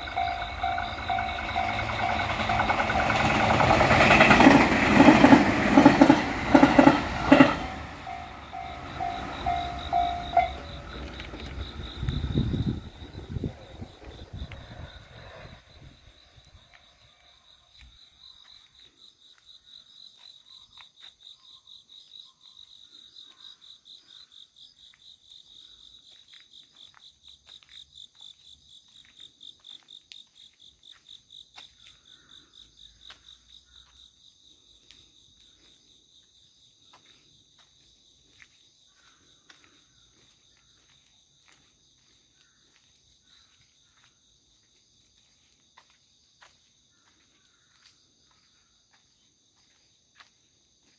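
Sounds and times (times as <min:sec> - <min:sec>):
insects singing in pulsing chorus: 0:00.0 - 0:50.9.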